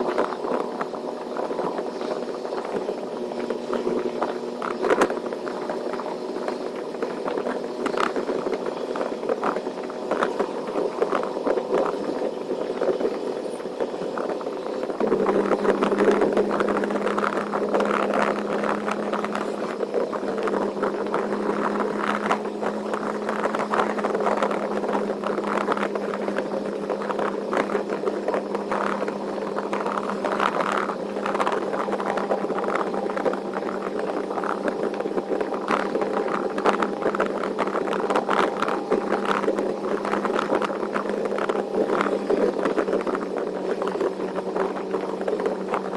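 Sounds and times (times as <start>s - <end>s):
rattles and ticks: 0.0s - 45.9s
truck diesel engine running: 0.0s - 45.9s.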